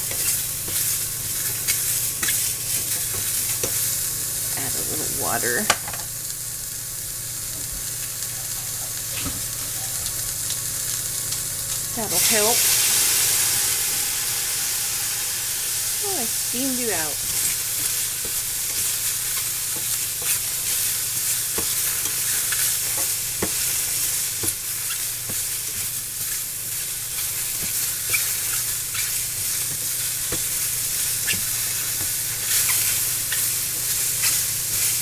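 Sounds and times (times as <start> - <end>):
vegetables sizzling in a frying pan: 0.0 - 35.0.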